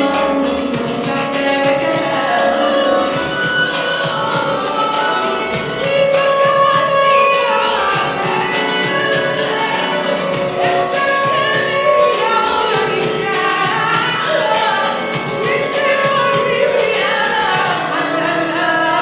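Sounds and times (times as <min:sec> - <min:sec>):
woman singing with instruments: 0:00.0 - 0:19.0.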